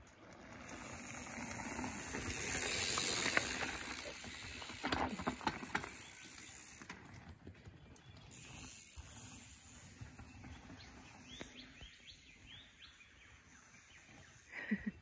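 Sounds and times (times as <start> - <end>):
bike tyres crunching on dirt: 0.0 - 14.1.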